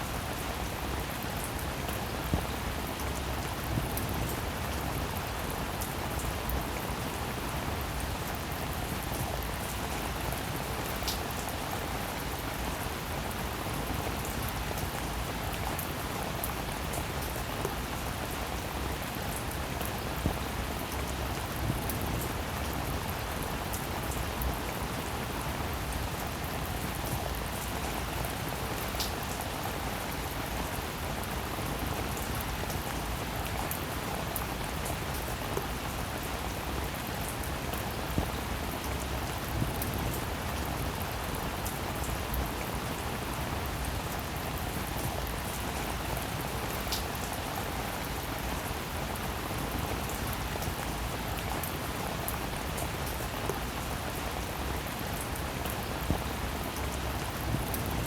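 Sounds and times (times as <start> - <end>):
steady rainfall hiss: 0.0 - 58.0.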